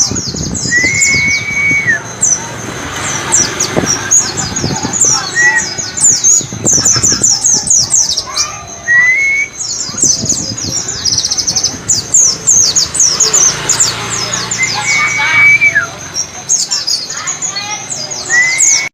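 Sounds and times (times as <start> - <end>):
birds singing high chirps: 0.0 - 18.9.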